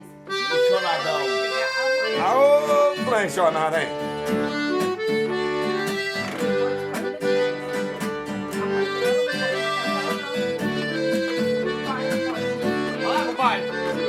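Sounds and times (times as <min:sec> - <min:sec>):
accordion melody: 0:00.0 - 0:14.0
strummed acoustic guitars: 0:00.0 - 0:14.0.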